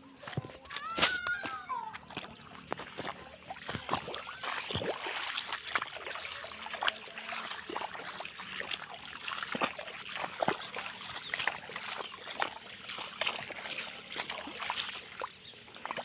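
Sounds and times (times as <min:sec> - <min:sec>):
footsteps splashing in water: 0:00.0 - 0:16.0
water trickling: 0:00.8 - 0:16.0.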